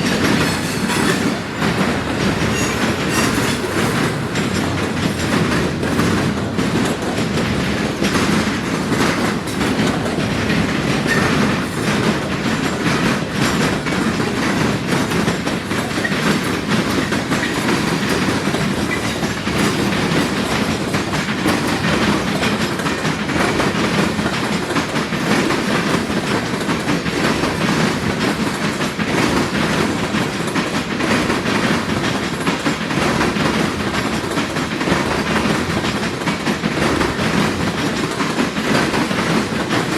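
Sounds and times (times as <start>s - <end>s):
train wheels clattering over crossing: 0.0s - 39.9s.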